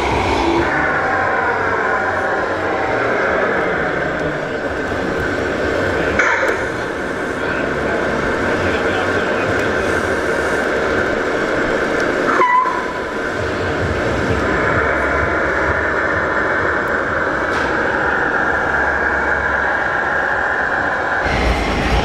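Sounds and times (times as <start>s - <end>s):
hall background noise: 0.0s - 22.0s.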